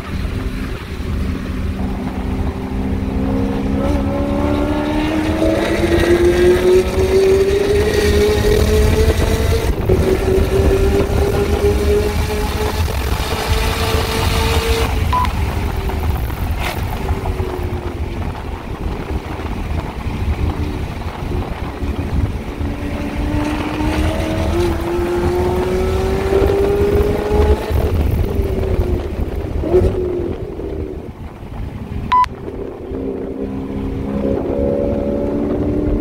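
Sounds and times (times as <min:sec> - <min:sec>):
car engine revving: 0:00.0 - 0:36.0
wind noise: 0:00.0 - 0:36.0.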